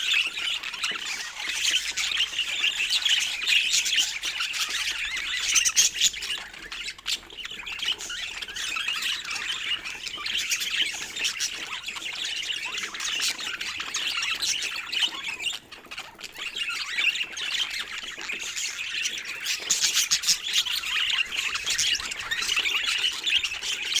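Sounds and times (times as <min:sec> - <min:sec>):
budgerigars chattering and squawking: 0:00.0 - 0:24.0.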